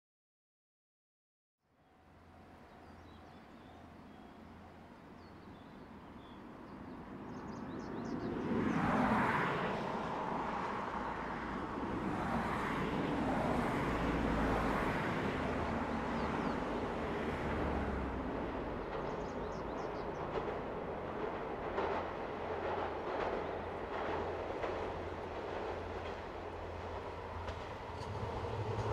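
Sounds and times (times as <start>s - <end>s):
diesel railcar approaching: 1.9s - 28.9s.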